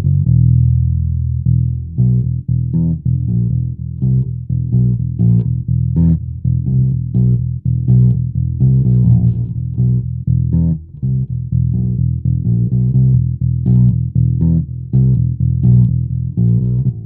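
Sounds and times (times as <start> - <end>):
plucked fretless bass notes: 0.0 - 17.0.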